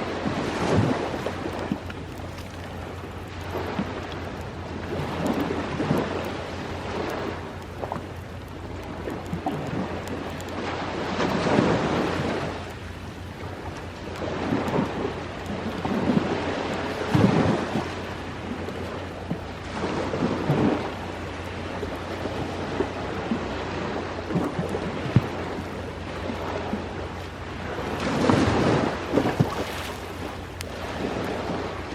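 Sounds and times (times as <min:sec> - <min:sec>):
campfire crackle: 0:00.0 - 0:31.9
ocean waves breaking on shore: 0:00.0 - 0:31.9.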